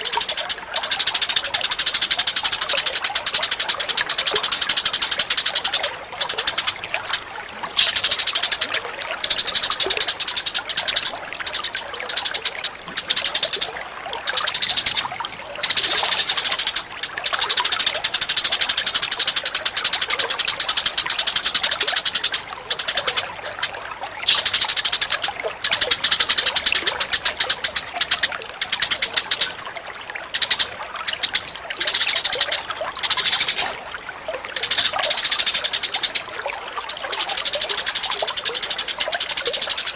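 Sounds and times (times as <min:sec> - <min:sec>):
songbird rattling chatter: 0:00.0 - 0:29.6, 0:30.2 - 0:33.7, 0:34.5 - 0:39.9
running water: 0:00.0 - 0:39.9.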